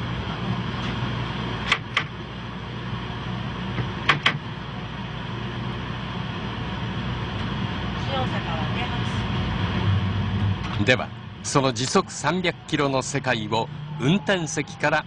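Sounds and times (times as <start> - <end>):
high-speed train rumble: 0.0 - 15.0.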